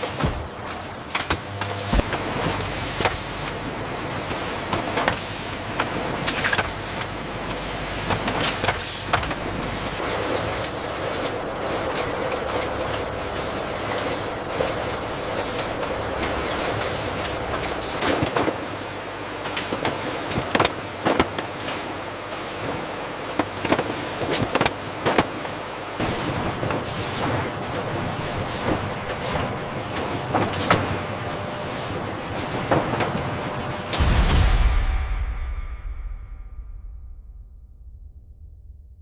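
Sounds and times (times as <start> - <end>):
factory machinery running: 0.0 - 35.6.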